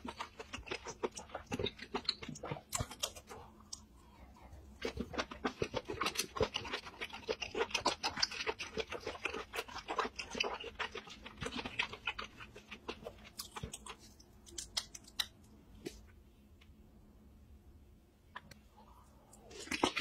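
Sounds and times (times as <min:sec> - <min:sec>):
wet chewing clicks and smacks: 0:00.0 - 0:16.0, 0:19.3 - 0:20.0.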